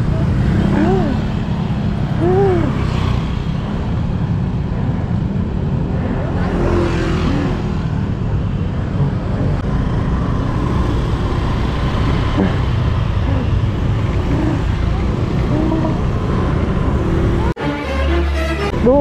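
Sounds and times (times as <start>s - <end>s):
cars and motorbikes going by: 0.0s - 19.0s.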